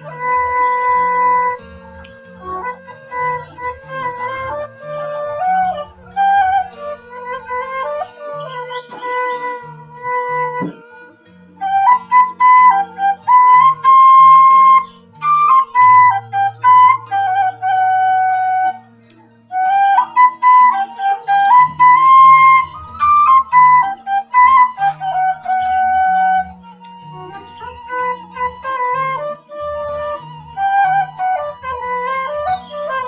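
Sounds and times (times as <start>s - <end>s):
bamboo flute melody: 0.0s - 33.0s.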